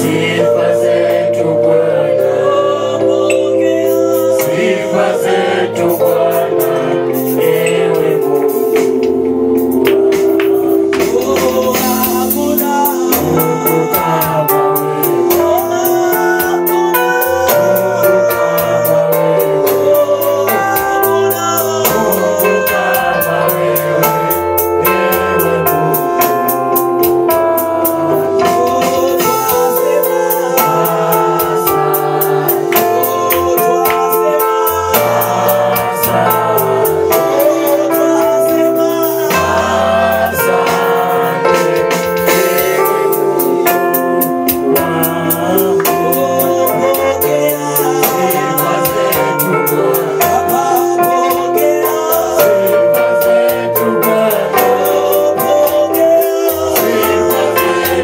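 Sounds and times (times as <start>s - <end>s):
electronic keyboard with beat: 0.0s - 58.0s.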